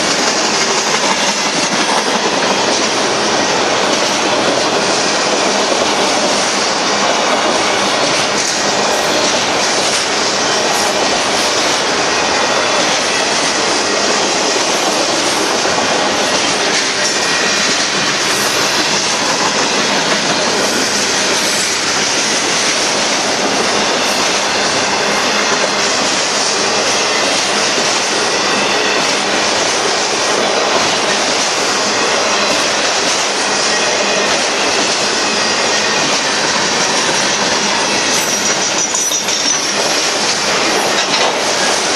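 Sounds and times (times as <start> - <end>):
rattling train cars: 0.0 - 41.9
steel wheels rushing on rail: 0.0 - 41.9.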